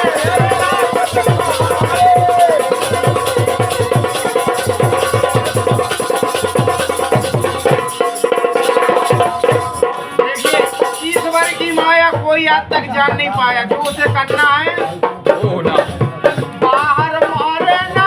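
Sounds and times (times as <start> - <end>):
drum beating quick rhythm: 0.0 - 18.0
held melody line: 0.0 - 18.0.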